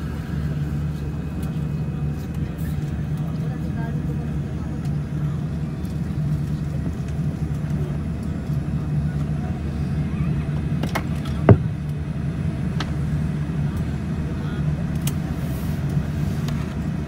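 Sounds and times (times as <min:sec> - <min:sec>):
aircraft cabin hum: 0:00.0 - 0:17.0.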